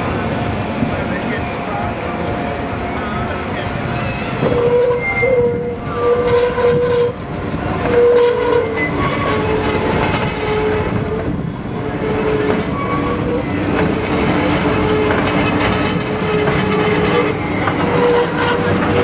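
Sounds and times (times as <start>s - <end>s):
tram rumbling on rails: 0.0s - 19.0s
whining tones: 0.0s - 19.0s.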